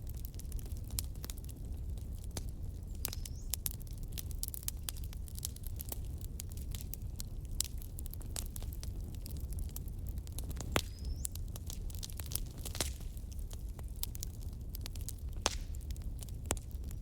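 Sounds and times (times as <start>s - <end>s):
logs crackling in fireplace: 0.0s - 17.0s
low rumble of flames: 0.0s - 17.0s.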